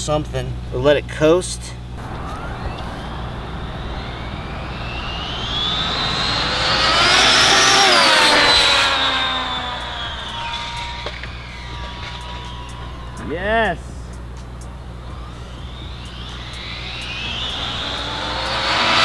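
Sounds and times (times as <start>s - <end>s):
rc car motor whine: 2.0s - 19.0s.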